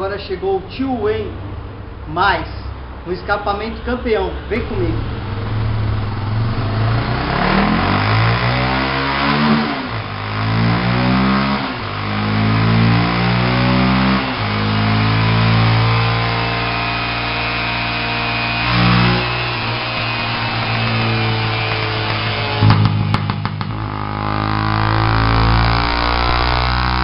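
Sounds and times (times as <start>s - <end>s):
car engine revving: 3.6s - 27.0s.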